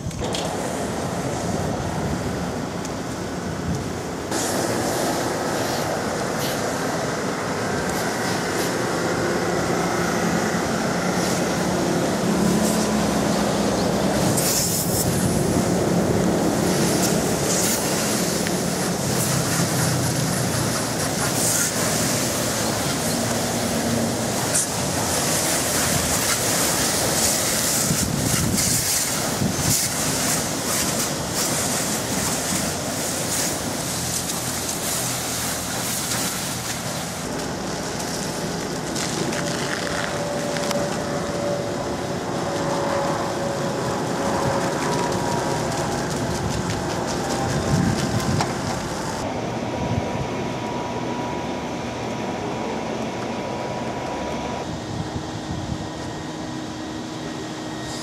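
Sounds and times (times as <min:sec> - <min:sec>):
high-pressure water spray hissing: 0:00.2 - 0:49.3, 0:56.9 - 0:58.0.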